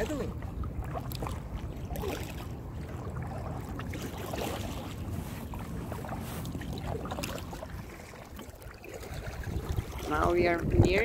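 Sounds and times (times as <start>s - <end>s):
paddle swishing and dripping water: 0.0s - 11.0s
wind rumble on microphone: 0.0s - 11.0s.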